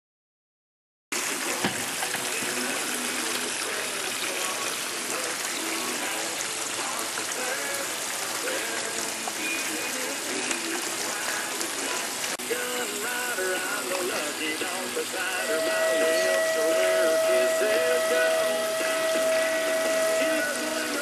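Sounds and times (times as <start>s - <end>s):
rushing water: 1.1s - 21.0s.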